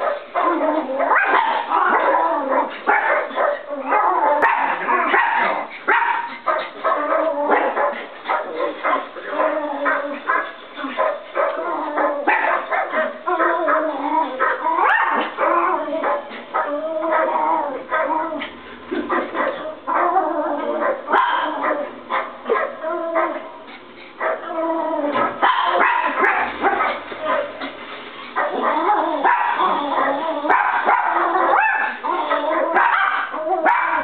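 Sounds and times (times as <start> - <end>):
puppies barking and yipping: 0.0 - 34.0.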